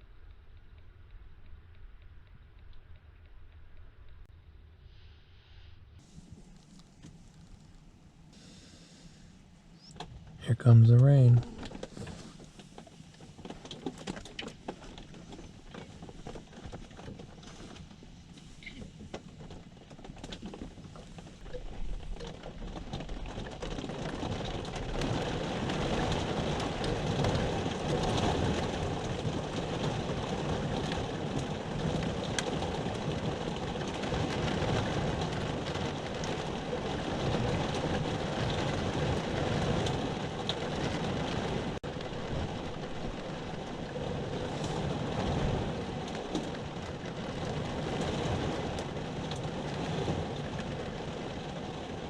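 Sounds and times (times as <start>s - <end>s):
heavy rain downpour: 10.3s - 52.0s.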